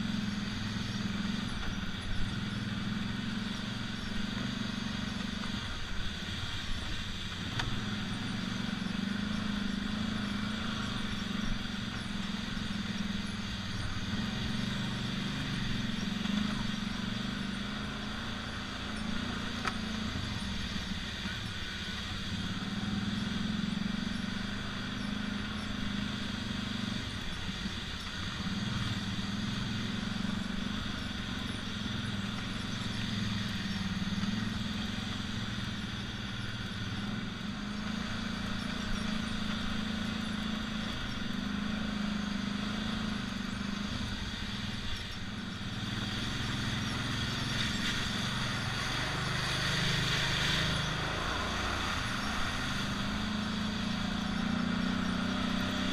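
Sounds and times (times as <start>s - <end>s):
quad bike engine running: 0.0s - 55.9s
trail noise: 0.0s - 55.9s
wind: 0.0s - 55.9s.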